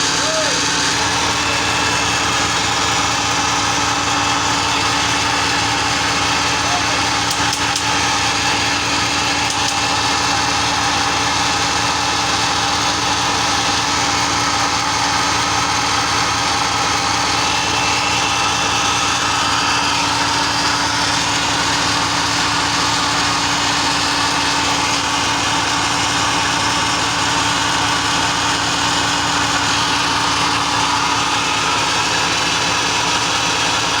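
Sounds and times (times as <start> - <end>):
ship engine running: 0.0 - 34.0.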